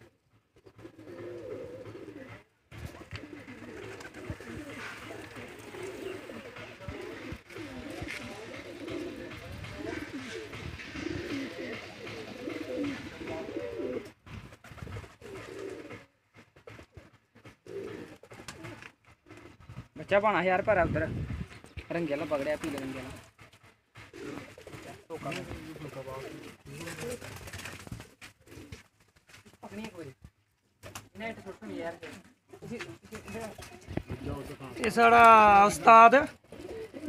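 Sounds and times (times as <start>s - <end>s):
pigeons cooing: 0.0s - 20.1s, 21.1s - 29.2s, 30.4s - 37.0s.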